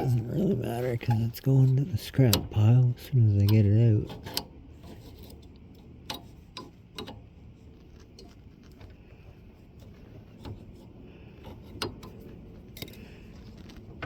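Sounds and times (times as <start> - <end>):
light clicks and knocks on metal: 0.0 - 2.8, 3.4 - 14.0.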